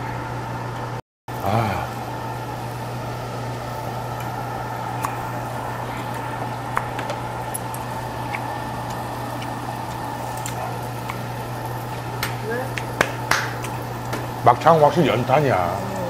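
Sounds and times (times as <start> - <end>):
steady low hum: 0.0 - 16.0
meat sizzling on a grill: 1.4 - 16.0.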